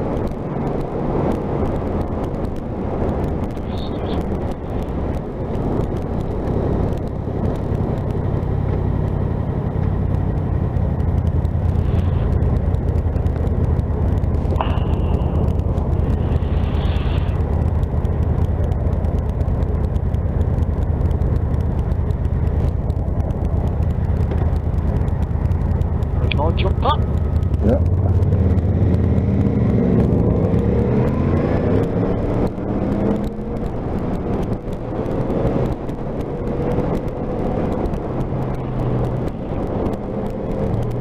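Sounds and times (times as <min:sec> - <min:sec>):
road noise: 0:00.0 - 0:41.0.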